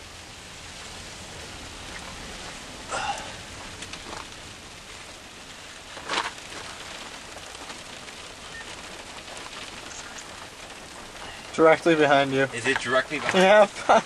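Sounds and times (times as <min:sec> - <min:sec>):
wind and rain hissing: 0:00.0 - 0:14.0.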